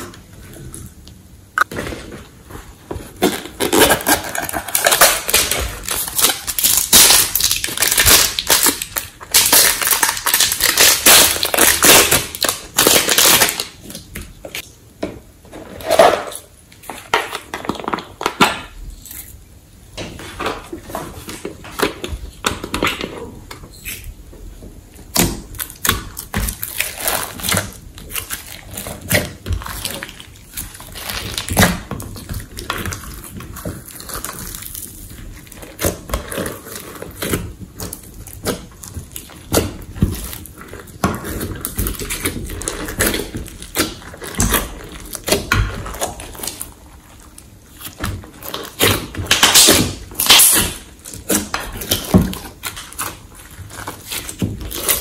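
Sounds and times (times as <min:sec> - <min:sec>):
slime squishing: 0:00.0 - 0:14.6, 0:24.8 - 0:55.0.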